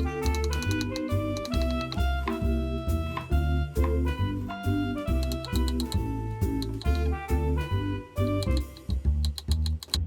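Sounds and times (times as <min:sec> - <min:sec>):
upbeat jazzy music with horns: 0:00.0 - 0:09.3.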